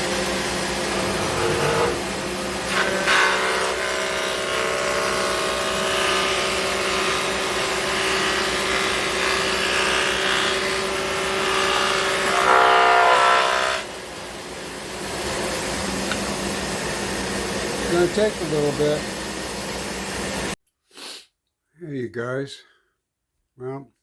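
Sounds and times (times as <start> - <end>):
woodworking machine motor humming: 0.0 - 20.6.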